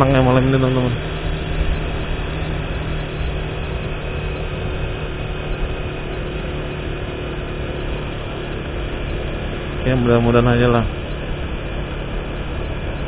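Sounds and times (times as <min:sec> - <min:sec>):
engine running: 0:00.0 - 0:13.0
road and wind noise: 0:00.0 - 0:13.0.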